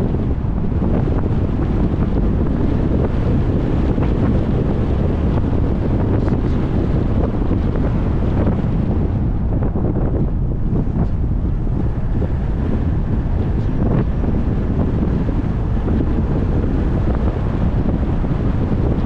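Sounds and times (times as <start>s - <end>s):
car road rumble: 0.0s - 19.0s
wind buffeting microphone: 0.0s - 19.0s.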